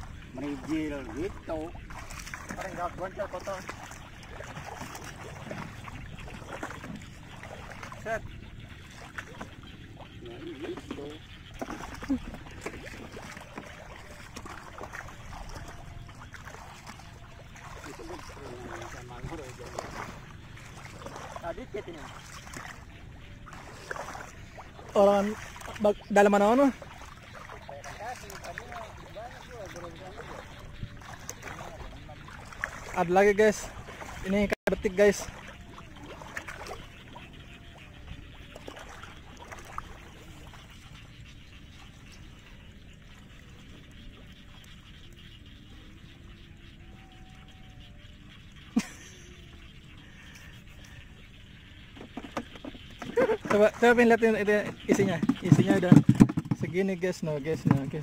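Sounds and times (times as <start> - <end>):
wading through water: 0.0 - 58.0.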